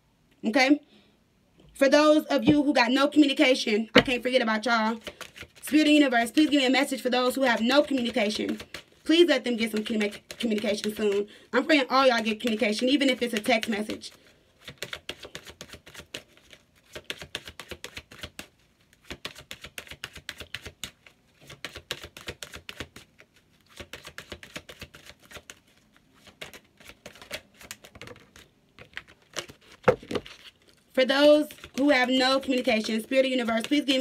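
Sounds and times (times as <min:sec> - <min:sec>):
cards being shuffled: 0:04.9 - 0:11.2, 0:12.2 - 0:30.8, 0:31.4 - 0:34.0.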